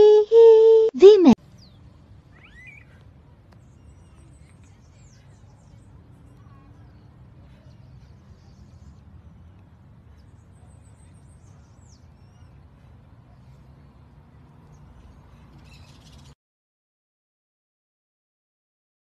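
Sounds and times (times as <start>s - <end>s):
low outdoor rumble: 0.9s - 16.3s
faint birds chirping: 1.0s - 16.4s.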